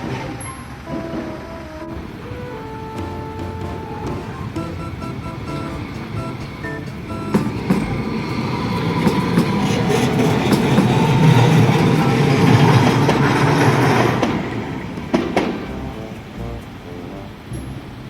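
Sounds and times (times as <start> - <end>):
train running noise: 0.7 - 18.0
wheels clacking over rail joints: 1.9 - 18.0.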